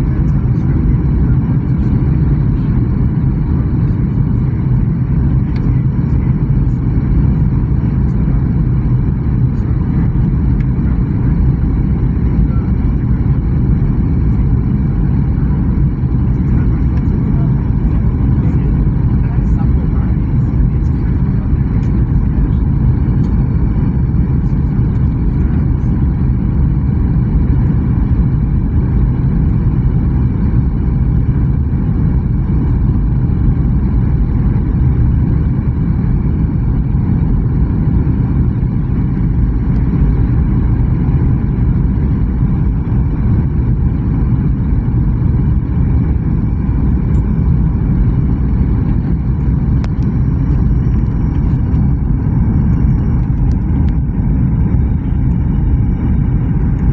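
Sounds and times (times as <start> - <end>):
jet airliner cabin drone: 0.0 - 56.9.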